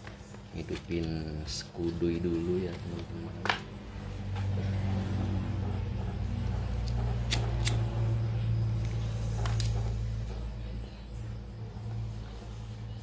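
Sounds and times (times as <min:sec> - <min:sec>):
low steady electric hum: 0:00.0 - 0:13.0.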